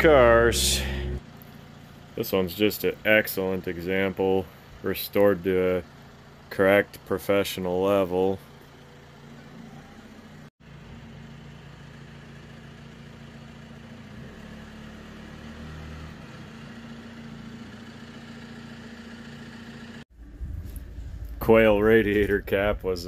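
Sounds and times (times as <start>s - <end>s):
engine idling: 0.0s - 14.2s, 16.5s - 23.0s.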